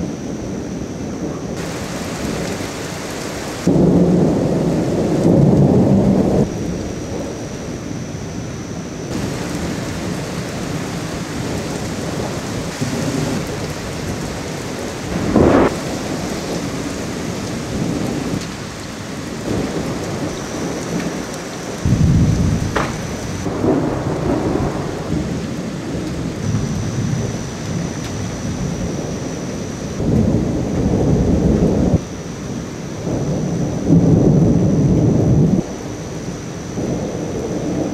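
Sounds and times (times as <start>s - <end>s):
steady rain: 0.0s - 37.9s
thunder crack: 0.0s - 37.9s
thunder rumbling: 0.0s - 37.9s.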